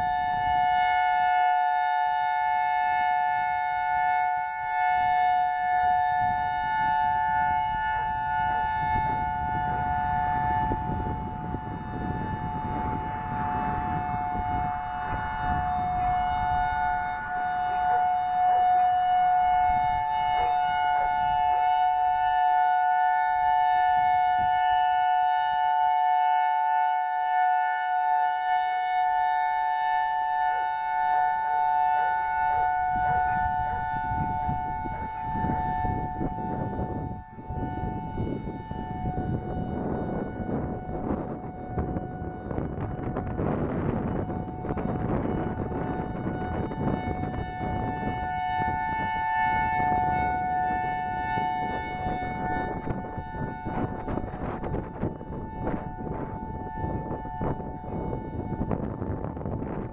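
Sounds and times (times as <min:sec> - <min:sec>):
electronic siren two-note chord: 0:00.0 - 0:59.9
wind buffeting microphone: 0:02.2 - 0:26.7, 0:27.3 - 0:59.9.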